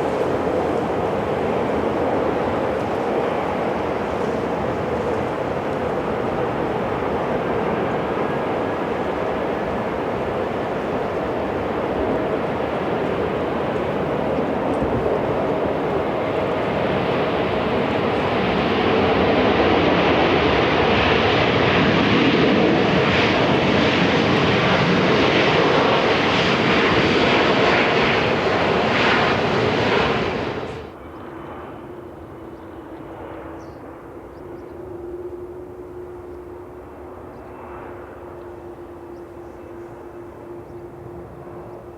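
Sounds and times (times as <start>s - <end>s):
jet engines running: 0.0s - 41.9s.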